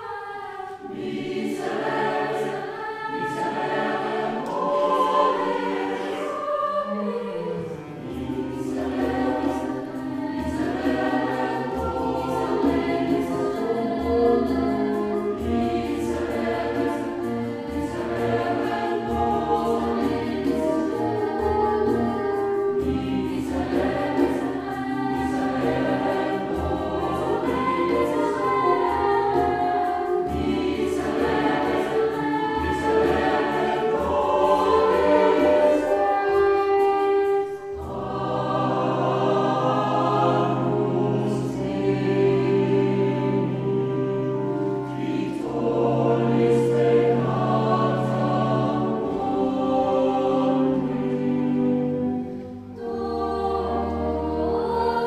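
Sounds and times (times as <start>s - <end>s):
chamber ensemble accompaniment: 0.0s - 55.0s
mixed choir singing: 0.0s - 55.0s.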